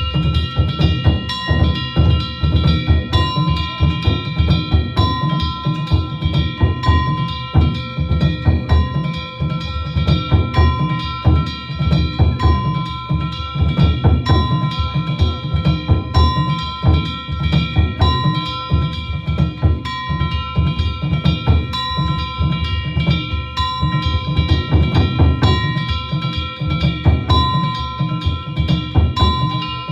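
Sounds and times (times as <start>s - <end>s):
hand gongs ringing: 0.0s - 29.9s
taiko drums beating: 0.0s - 29.9s.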